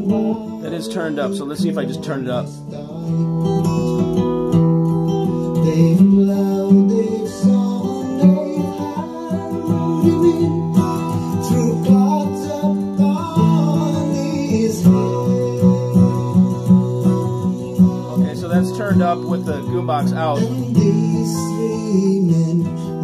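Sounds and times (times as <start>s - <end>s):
person singing: 0.0s - 4.4s, 5.0s - 23.0s
folk-rock song over loudspeakers: 0.0s - 23.0s
strummed acoustic guitar: 0.0s - 23.0s.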